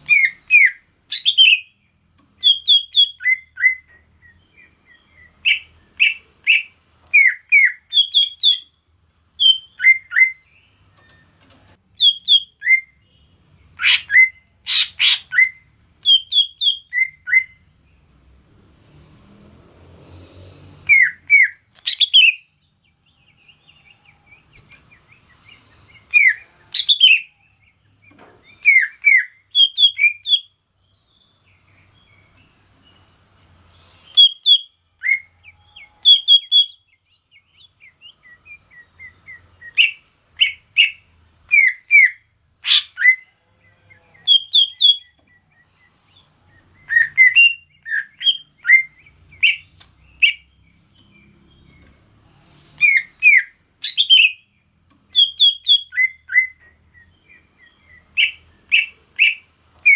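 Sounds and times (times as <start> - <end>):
bird whistling song: 0.0 - 1.8, 2.4 - 17.7, 20.8 - 33.0, 33.7 - 51.9, 52.7 - 59.9.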